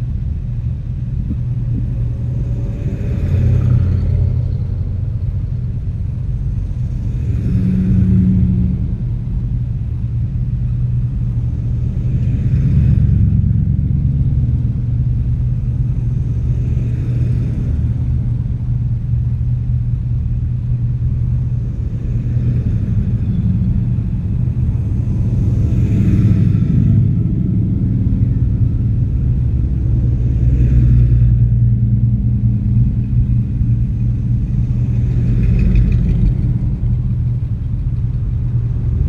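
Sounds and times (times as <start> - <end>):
car engine rumble and road noise: 0.0 - 39.0
oncoming cars passing: 0.0 - 39.0.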